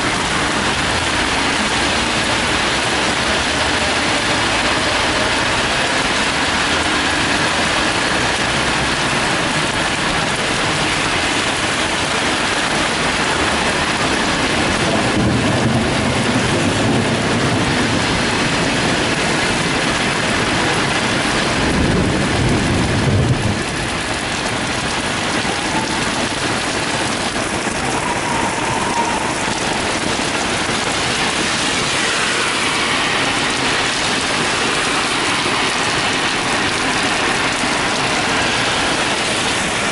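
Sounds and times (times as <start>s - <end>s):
heavy rain on pavement: 0.0s - 39.9s
car tyres swishing through water: 0.1s - 39.9s.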